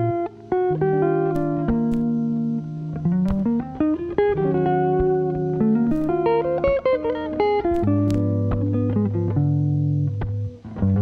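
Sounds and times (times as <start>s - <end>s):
held chords: 0.0s - 11.0s
plucked guitar melody: 0.0s - 11.0s.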